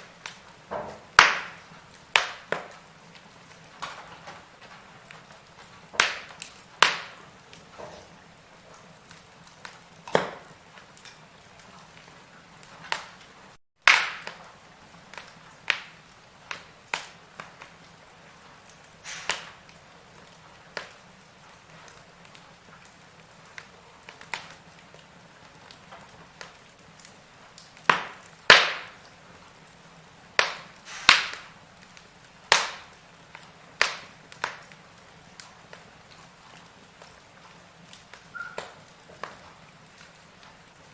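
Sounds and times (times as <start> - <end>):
faint steady hiss: 0.0 - 40.9
wood fire crackling and popping: 0.0 - 40.9.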